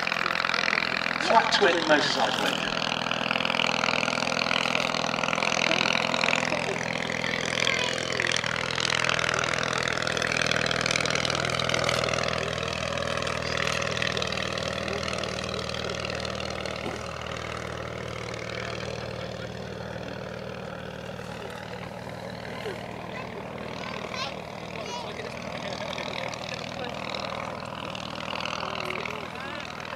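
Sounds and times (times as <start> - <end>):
light aircraft engine buzzing: 0.0 - 29.9.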